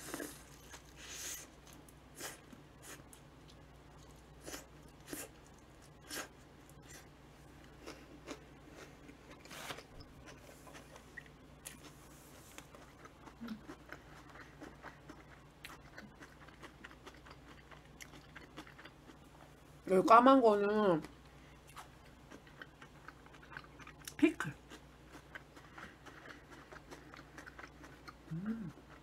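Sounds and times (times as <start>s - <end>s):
chewing a soft sandwich: 0.0s - 19.8s, 21.0s - 29.0s
low steady hum: 0.0s - 29.0s.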